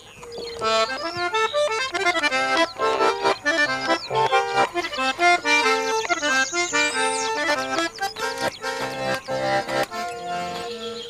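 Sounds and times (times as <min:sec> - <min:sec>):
accordion playing lively tune: 0:00.6 - 0:11.0.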